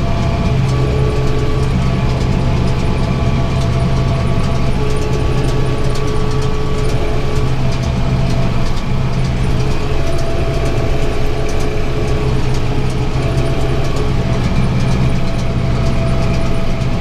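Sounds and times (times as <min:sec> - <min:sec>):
faint machinery ticking: 0:00.0 - 0:17.0
tractor engine running under load: 0:00.0 - 0:17.0.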